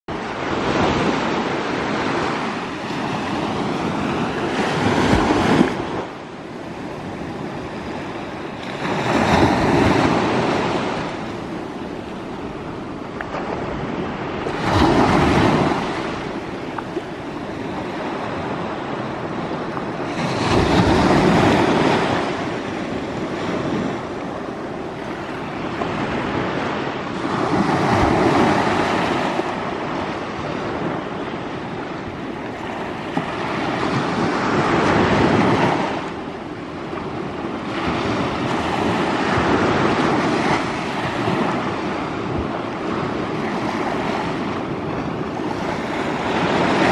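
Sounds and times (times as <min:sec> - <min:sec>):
small waves breaking on shore: 0:00.1 - 0:46.9.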